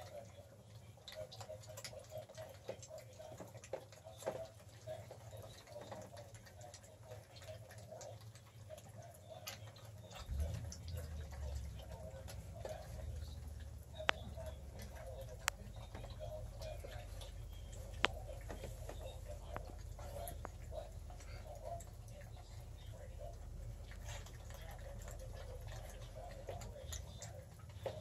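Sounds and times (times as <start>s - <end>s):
puppies lapping and chewing: 0.0s - 28.0s.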